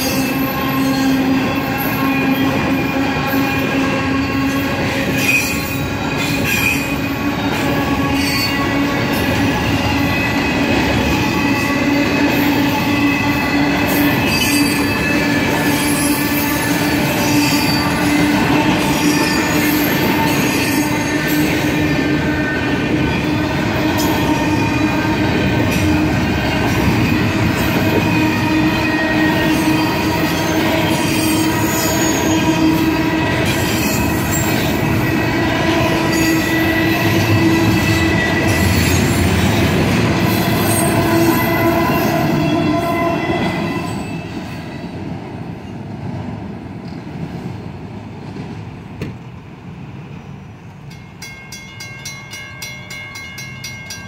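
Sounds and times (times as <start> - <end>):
crossing warning bell ringing: 0.0 - 44.6, 50.8 - 54.0
freight train rolling past: 0.0 - 54.0.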